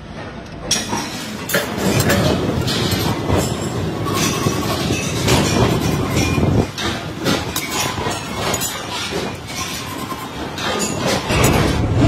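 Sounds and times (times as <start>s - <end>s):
factory machinery din: 0.0s - 12.0s
power press metal clanks: 0.7s - 12.0s.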